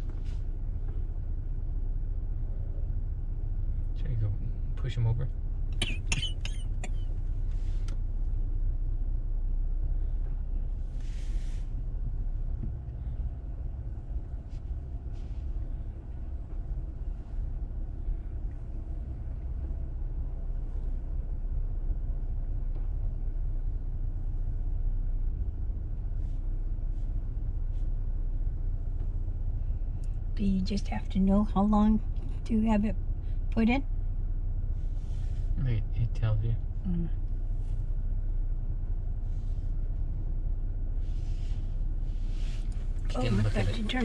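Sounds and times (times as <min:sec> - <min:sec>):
car engine rumble inside cabin: 0:00.0 - 0:44.0.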